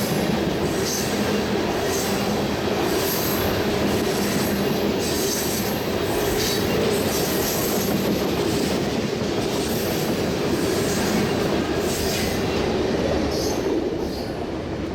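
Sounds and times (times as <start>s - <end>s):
train wheels rumbling on rail: 0.0s - 14.9s.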